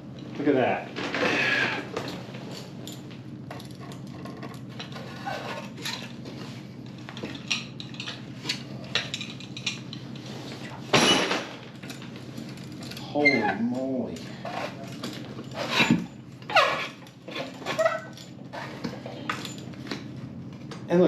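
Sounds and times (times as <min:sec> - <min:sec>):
metal clinking and scraping: 0:01.1 - 0:19.9.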